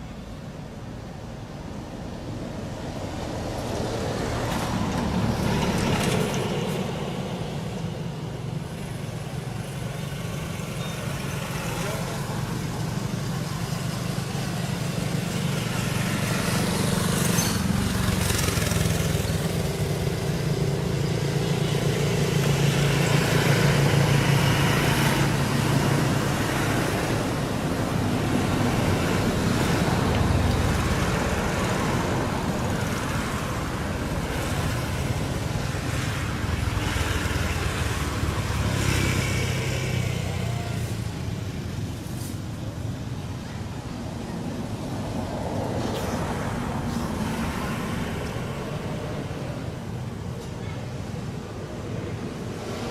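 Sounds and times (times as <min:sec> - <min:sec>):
road traffic rumble: 0:00.0 - 0:52.9.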